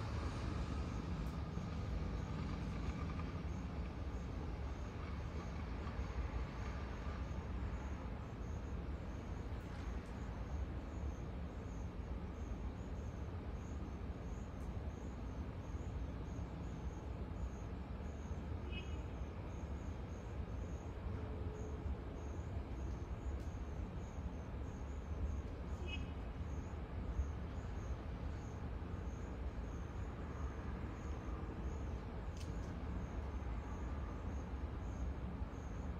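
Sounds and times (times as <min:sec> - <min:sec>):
insects chirping: 0:00.1 - 0:35.9.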